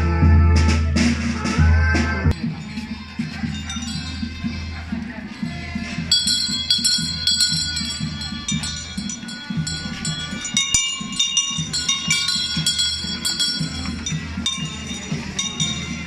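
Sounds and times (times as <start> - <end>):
bells ringing: 2.3 - 16.0
low rhythmic pulse: 2.3 - 16.0.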